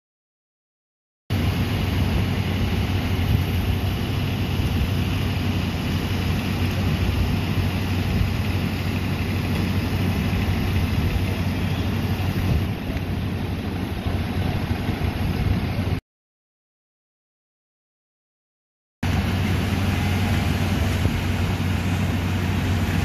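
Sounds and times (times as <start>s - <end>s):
engine idling: 1.3s - 16.0s, 19.0s - 23.0s.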